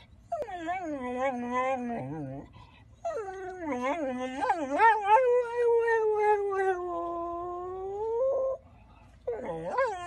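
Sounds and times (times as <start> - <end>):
dog howling and whining: 0.2 - 8.6, 9.2 - 10.0.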